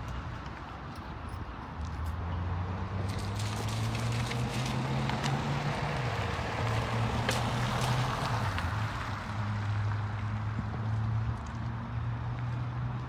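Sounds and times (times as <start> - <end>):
wind or traffic noise: 0.0 - 13.0.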